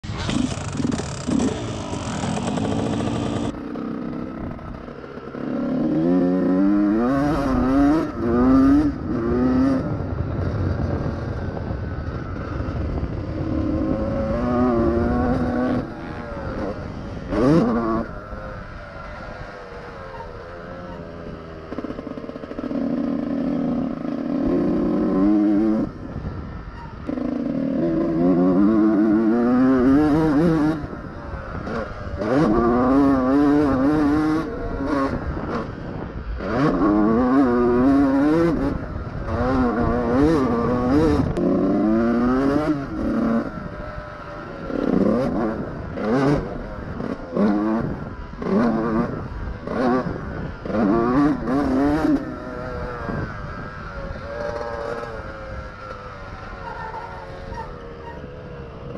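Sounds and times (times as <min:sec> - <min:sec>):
motocross engine revving: 0:00.0 - 0:58.9.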